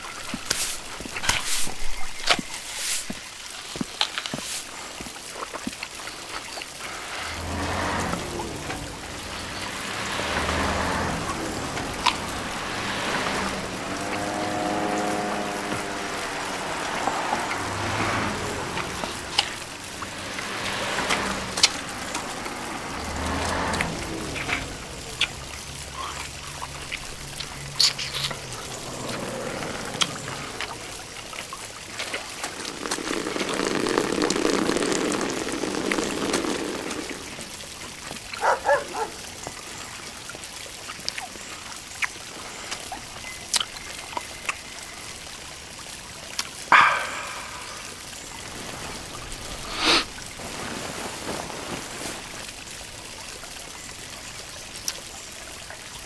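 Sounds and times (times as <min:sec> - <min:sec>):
fountain water splashing into pool: 0:00.0 - 0:56.0.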